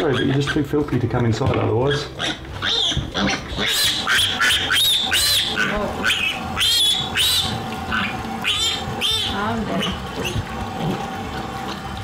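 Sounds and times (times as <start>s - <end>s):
piglet squealing: 0.0s - 0.7s, 1.8s - 11.0s.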